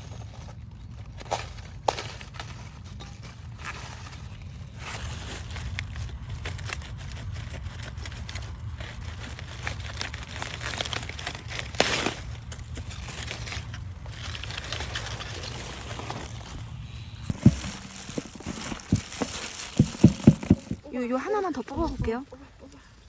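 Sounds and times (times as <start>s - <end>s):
rustling and crinkling: 0.0s - 23.0s.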